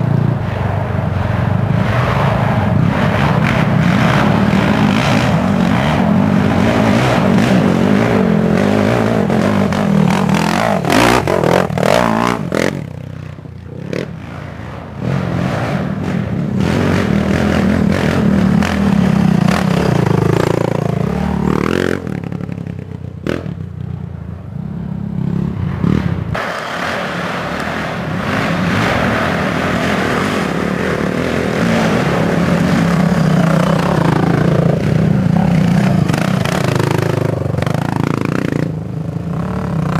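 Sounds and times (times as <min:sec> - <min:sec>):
quad engines revving: 0:00.0 - 0:23.8, 0:25.1 - 0:39.9.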